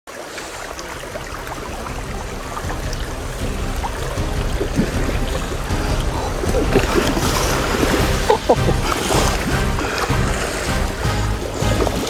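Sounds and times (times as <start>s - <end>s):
stony stream running: 0.1s - 12.0s
water splashing around wading legs: 0.1s - 12.0s.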